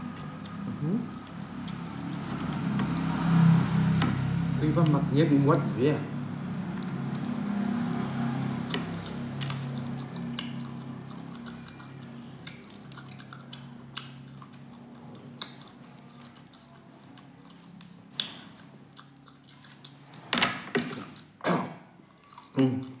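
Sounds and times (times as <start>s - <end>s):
chewing and wet smacking: 0.0s - 5.0s, 6.7s - 20.2s, 20.8s - 21.4s, 22.1s - 23.0s.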